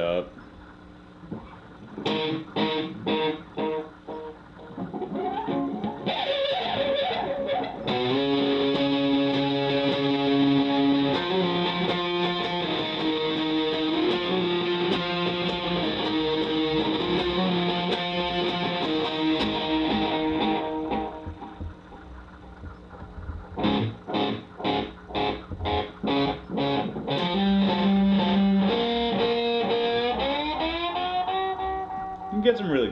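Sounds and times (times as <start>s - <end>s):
electric guitar with long delay: 1.4s - 22.4s, 23.4s - 32.6s.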